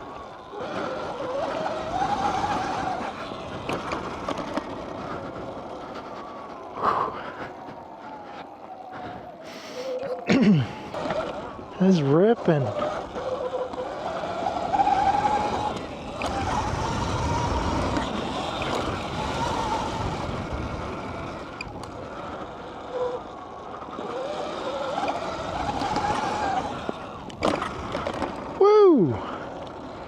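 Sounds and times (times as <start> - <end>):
electric dirt bike motor whine: 0.0 - 30.0
wind and tyres rushing: 0.0 - 30.0.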